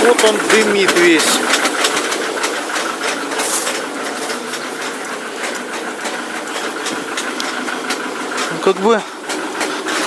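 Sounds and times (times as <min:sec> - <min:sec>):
diesel engine running: 0:00.0 - 0:10.0
sharp engine knocks: 0:00.0 - 0:10.0.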